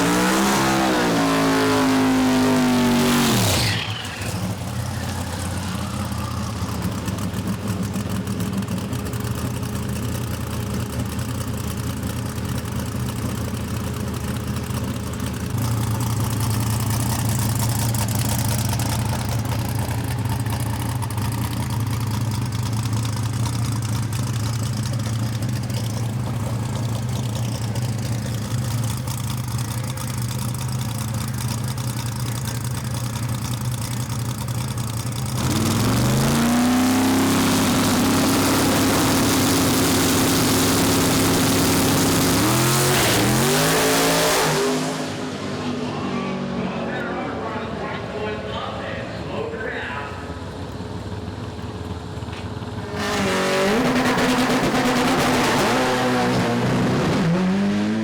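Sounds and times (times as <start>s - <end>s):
high-revving engine: 0.0s - 48.7s, 50.4s - 58.0s
race car engines idling: 0.0s - 58.0s.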